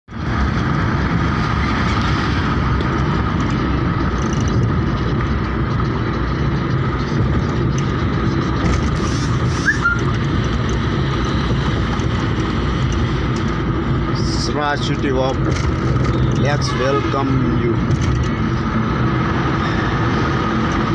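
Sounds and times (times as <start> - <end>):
car road and engine noise: 0.1 - 20.9.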